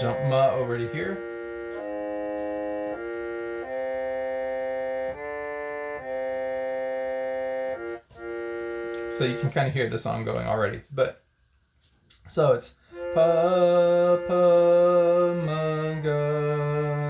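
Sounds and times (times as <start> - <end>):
harmonium sustained notes: 0.0 - 10.0, 12.9 - 17.0.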